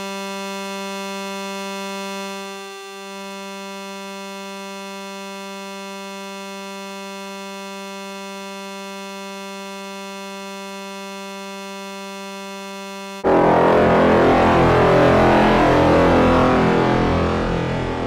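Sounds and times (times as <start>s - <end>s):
low buzzy alert tone: 1.2s - 18.0s.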